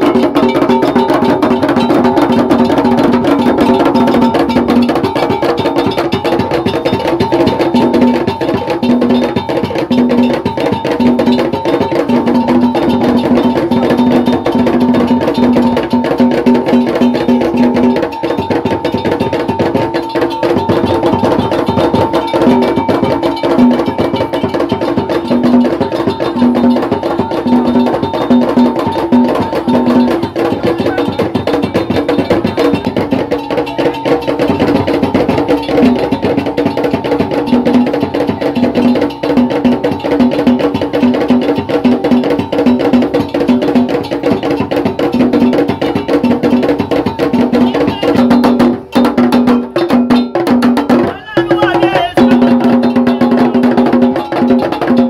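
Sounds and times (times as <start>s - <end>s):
drums playing: 0.0s - 55.0s
wood-block percussion: 0.0s - 55.0s.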